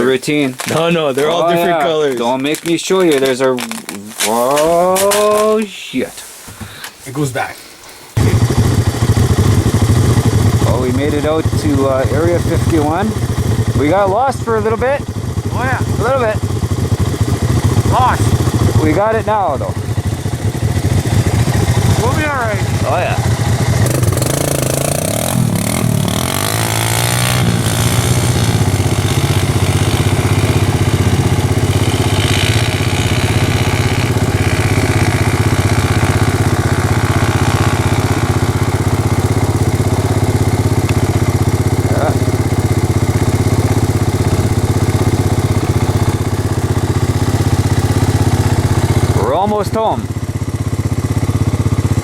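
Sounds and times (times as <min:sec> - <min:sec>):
three-wheeler engine running: 0:08.2 - 0:52.0.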